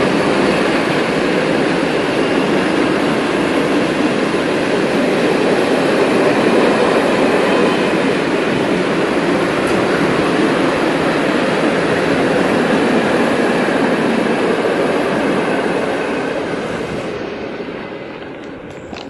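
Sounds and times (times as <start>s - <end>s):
freight train wheels rumbling on track: 0.0s - 19.0s.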